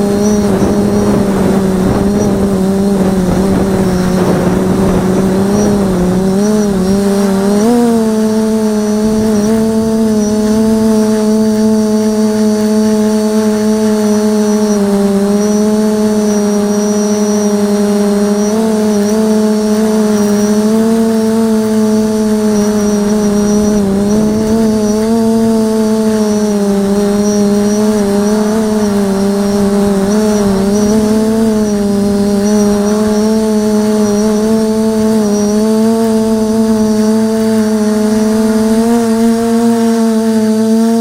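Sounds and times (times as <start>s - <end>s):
drone motors humming: 0.0s - 41.0s.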